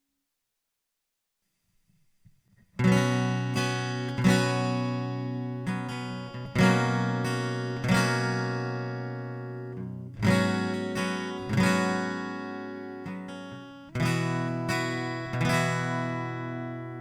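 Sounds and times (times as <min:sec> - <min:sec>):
acoustic guitar strumming chords: 0:02.8 - 0:17.0.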